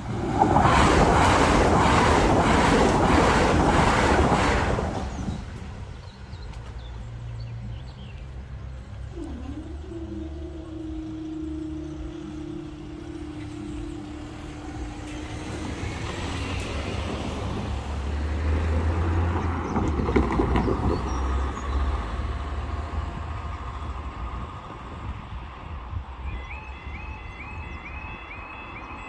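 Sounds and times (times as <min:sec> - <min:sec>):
traffic hum: 0:00.0 - 0:29.0
vehicles driving over crossing: 0:00.0 - 0:29.0.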